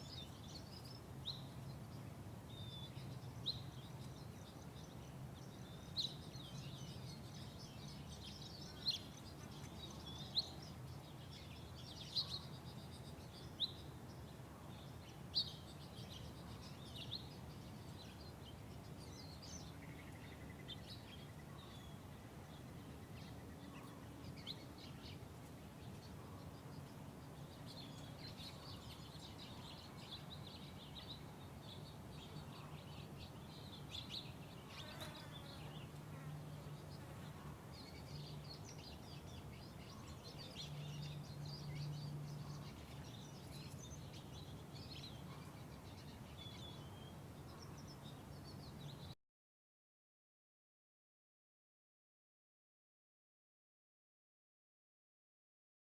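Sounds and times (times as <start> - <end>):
small birds chirping: 0.0 - 49.2.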